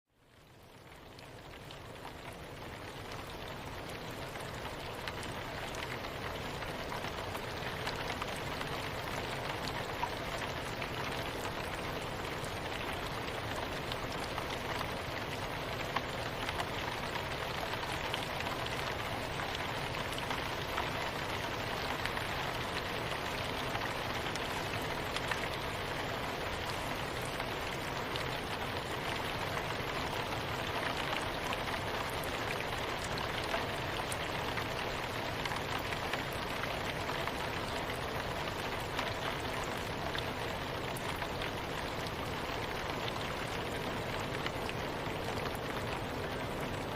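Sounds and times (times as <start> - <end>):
soft rain hissing: 0.2 - 46.9
raindrops ticking: 0.7 - 46.9.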